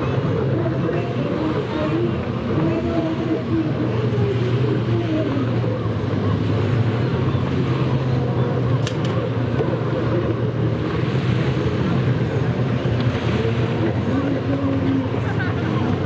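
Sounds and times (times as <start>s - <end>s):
jet ski engines running hard: 0.0s - 16.0s.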